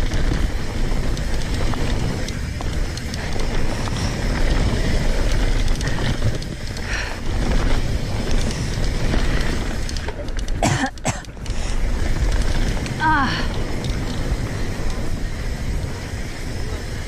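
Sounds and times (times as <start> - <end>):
bike tyres and frame rattling: 0.0 - 17.0
wind buffeting microphone: 0.0 - 17.0.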